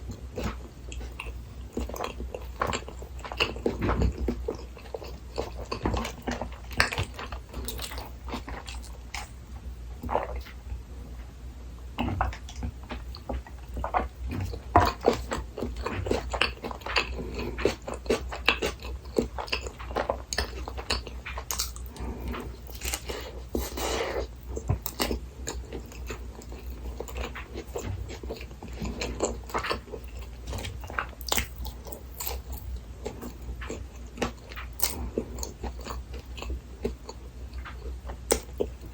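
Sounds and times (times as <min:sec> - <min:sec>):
person chewing food: 0:00.0 - 0:10.8, 0:12.0 - 0:38.9.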